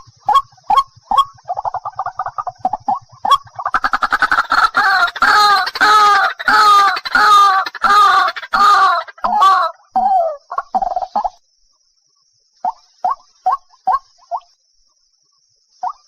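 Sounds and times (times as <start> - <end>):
waterhen calling: 0.0 - 11.4, 12.6 - 14.6.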